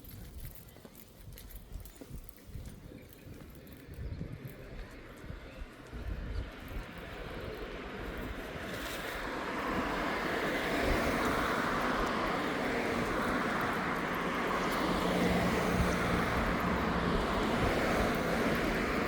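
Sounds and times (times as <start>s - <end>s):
road traffic passing: 3.2s - 19.0s.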